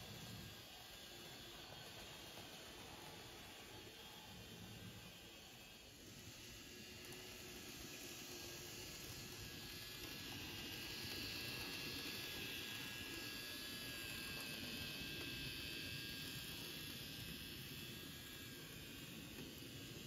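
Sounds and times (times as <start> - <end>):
model train whirring along track: 0.0 - 20.0.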